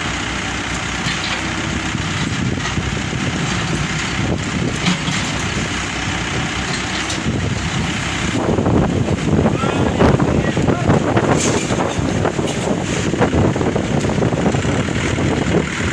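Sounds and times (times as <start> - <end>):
truck engine running: 0.0 - 15.9.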